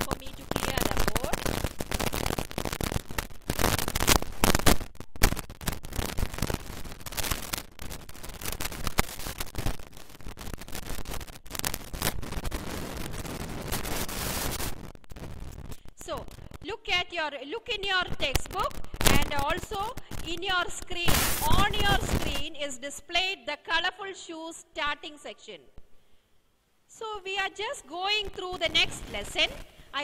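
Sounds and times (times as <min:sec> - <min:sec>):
crackling static: 0:00.0 - 0:24.1, 0:24.8 - 0:30.0.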